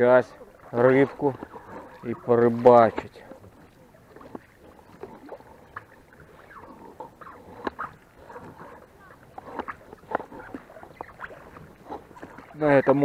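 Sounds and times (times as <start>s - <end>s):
oarlocks creaking: 0.0s - 13.0s
oars knocking: 0.0s - 13.0s
oars splashing in water: 0.0s - 13.0s.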